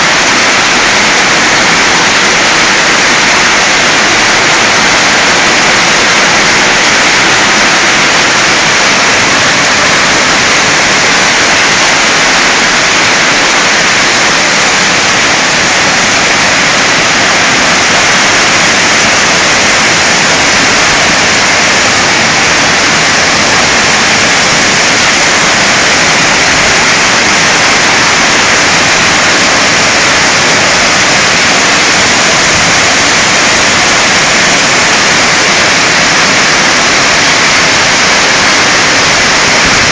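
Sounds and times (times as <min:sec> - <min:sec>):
heavy hail falling: 0:00.0 - 0:39.9.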